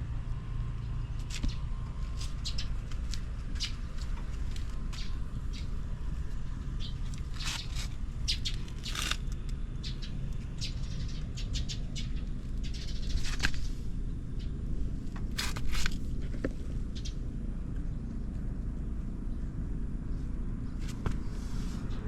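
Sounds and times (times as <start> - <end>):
motorcycle engine idling: 0.0 - 20.8.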